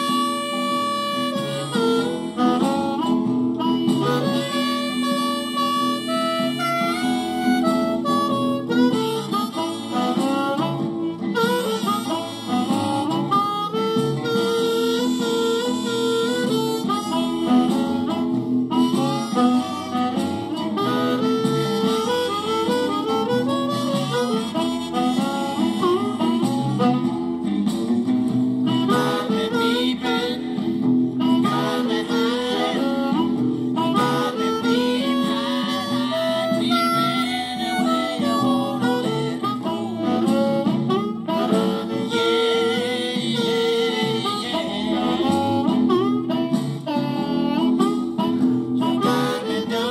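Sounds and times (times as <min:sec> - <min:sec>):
distorted blues harmonica: 0:00.0 - 0:49.9.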